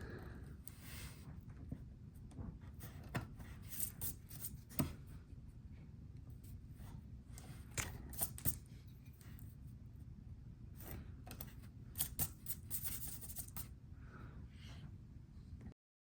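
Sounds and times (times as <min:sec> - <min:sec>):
low steady hum: 0:00.0 - 0:15.8.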